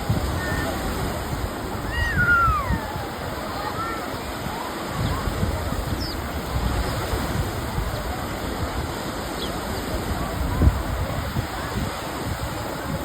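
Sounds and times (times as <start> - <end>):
surf rushing: 0.0 - 13.0
wind buffeting microphone: 0.0 - 13.0.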